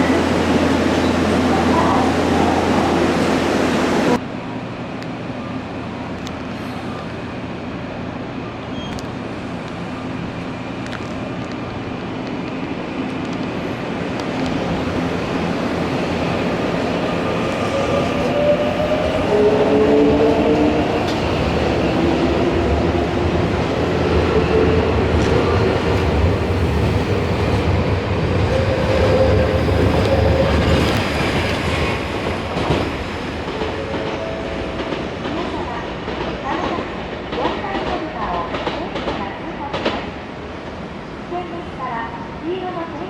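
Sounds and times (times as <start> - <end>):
train rail rumble: 0.0 - 41.0.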